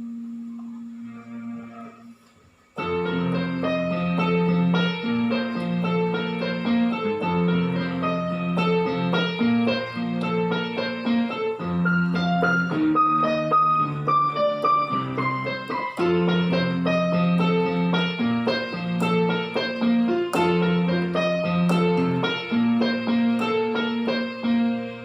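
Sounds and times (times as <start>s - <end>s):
keyboard ringtone tune in piano sound: 2.8s - 25.0s.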